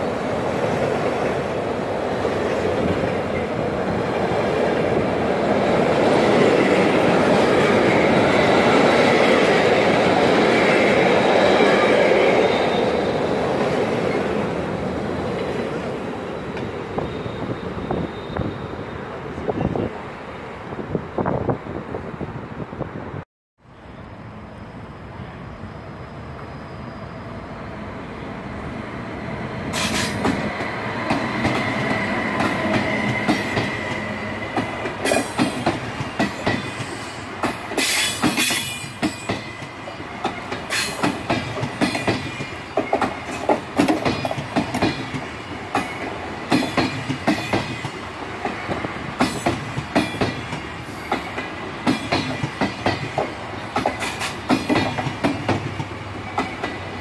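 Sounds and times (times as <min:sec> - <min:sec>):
electric train passing: 0:00.0 - 0:57.0
high train whine: 0:00.0 - 0:57.0.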